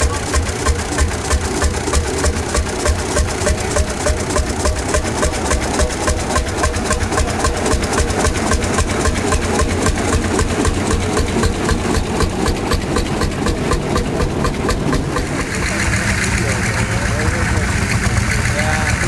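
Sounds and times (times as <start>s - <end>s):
tractor engine running slowly: 0.0s - 19.0s.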